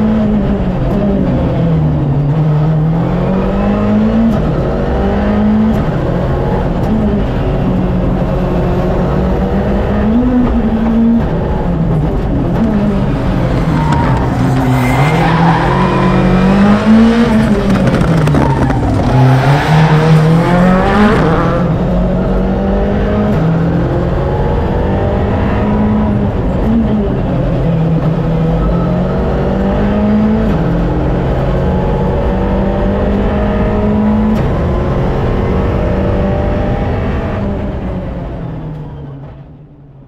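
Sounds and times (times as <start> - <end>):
car engine shifting gears: 0.0 - 39.7.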